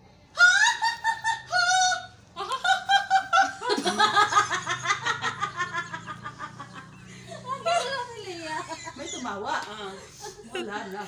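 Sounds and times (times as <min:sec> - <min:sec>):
high-pitched laughter: 0:00.3 - 0:11.0
several people laughing: 0:00.4 - 0:11.0.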